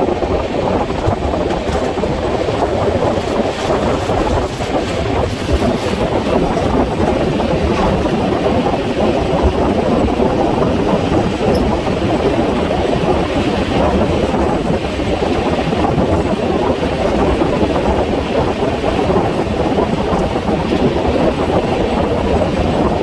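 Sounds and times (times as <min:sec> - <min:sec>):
rushing air: 0:00.0 - 0:21.4
train wheels rumbling on track: 0:00.0 - 0:23.0.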